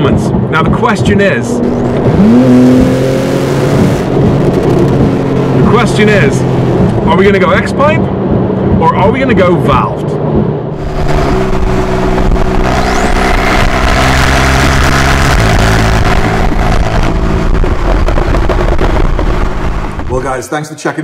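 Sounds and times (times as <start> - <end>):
wind and road noise: 0.0 - 20.4
car engine driving: 0.0 - 20.5.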